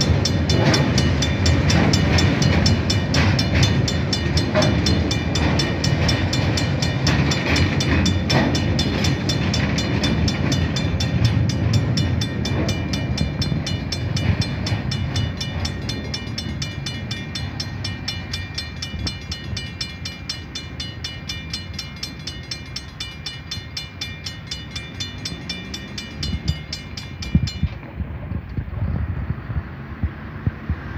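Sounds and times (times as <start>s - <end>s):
level crossing bell ringing: 0.0s - 27.8s.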